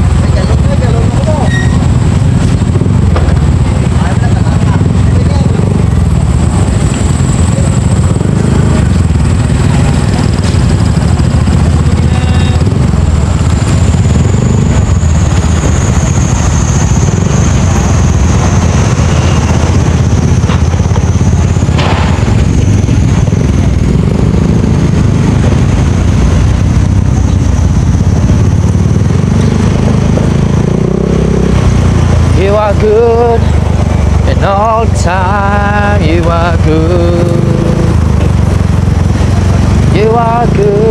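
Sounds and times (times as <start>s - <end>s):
motorcycle riding wind and engine: 0.0s - 40.9s.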